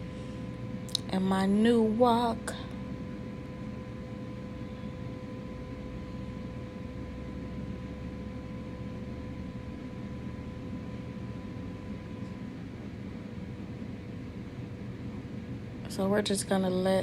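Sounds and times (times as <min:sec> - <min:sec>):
constant whine: 0:00.0 - 0:17.0
low mechanical hum: 0:00.0 - 0:17.0.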